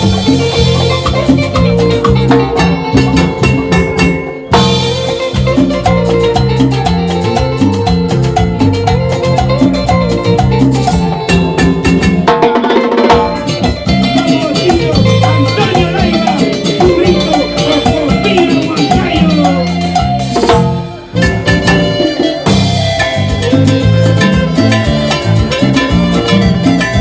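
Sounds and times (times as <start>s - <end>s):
steady bass line: 0.0s - 12.4s, 13.1s - 27.0s
drums and percussion: 0.0s - 27.0s
salsa band playing: 0.0s - 27.0s.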